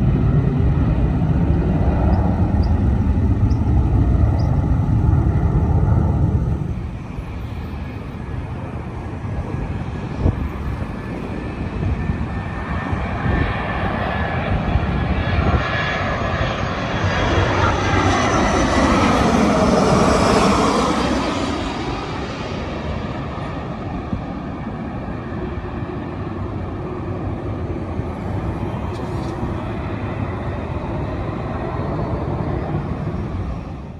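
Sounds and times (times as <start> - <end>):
jet airliner flying past: 0.0 - 33.9.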